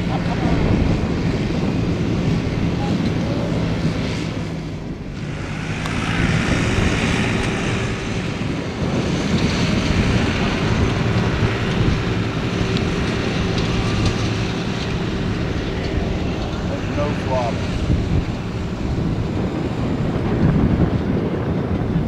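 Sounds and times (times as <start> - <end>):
model aircraft propeller droning: 0.0 - 22.0
wind buffeting microphone: 0.0 - 22.0.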